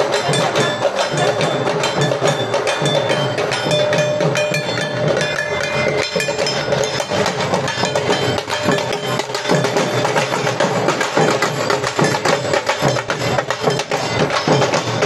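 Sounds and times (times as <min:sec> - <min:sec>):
barrel drums in fast rhythm: 0:00.0 - 0:15.0.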